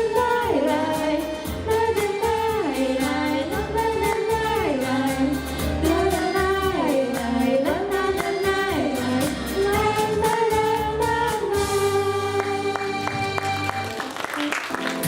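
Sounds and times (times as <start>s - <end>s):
vocal ensemble singing: 0.0s - 13.2s
pop backing track: 0.0s - 15.0s.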